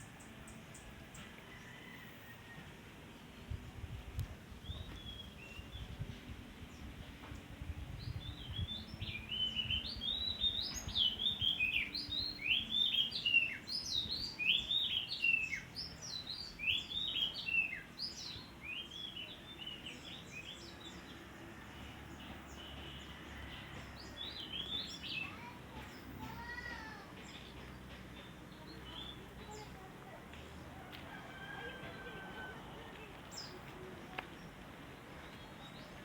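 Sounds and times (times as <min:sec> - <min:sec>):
songbird chirping: 0:00.0 - 0:36.0.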